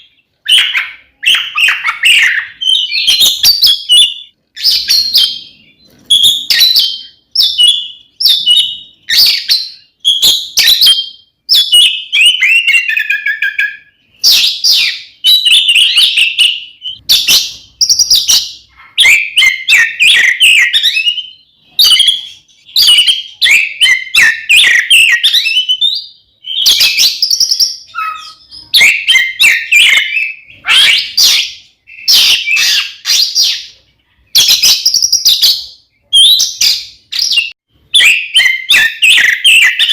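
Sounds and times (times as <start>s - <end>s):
bird singing whistled phrases: 0.0s - 33.8s, 34.4s - 39.9s.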